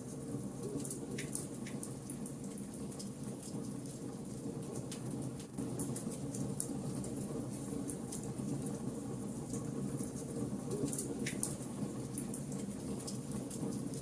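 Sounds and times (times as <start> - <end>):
wood fire crackling and popping: 0.0 - 8.8, 9.4 - 14.0.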